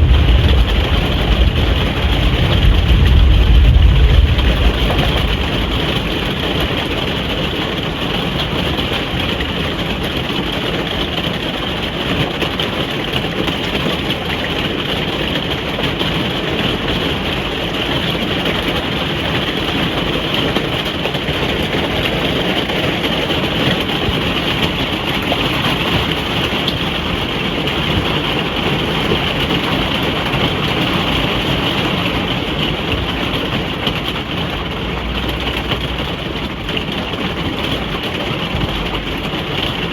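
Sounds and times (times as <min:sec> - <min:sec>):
rain on a caravan roof: 0:00.0 - 0:39.9.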